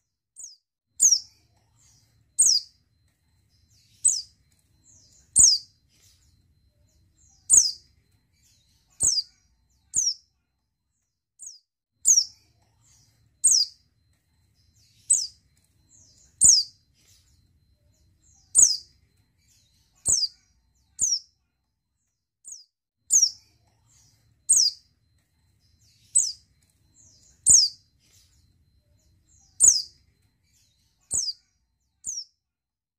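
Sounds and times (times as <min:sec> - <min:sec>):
bird high chirps: 0:00.4 - 0:10.4, 0:11.4 - 0:21.4, 0:22.5 - 0:32.4.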